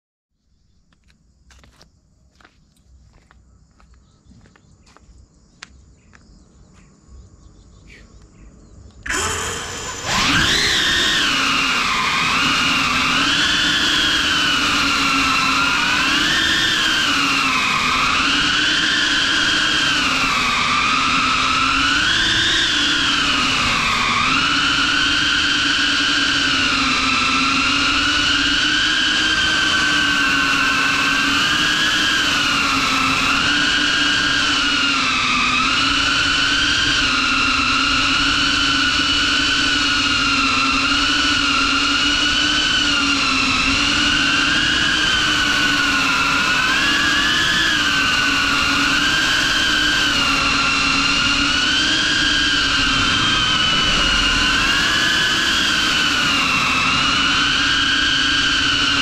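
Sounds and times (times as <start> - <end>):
drone motors whining: 0.6 - 59.0.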